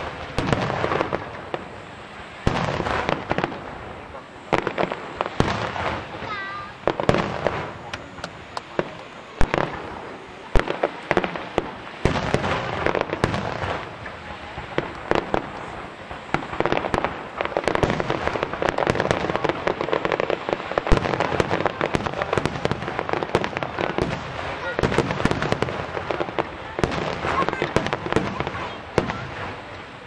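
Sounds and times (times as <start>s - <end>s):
fireworks crackling: 0.0s - 30.0s
firework shells bursting: 4.5s - 29.8s.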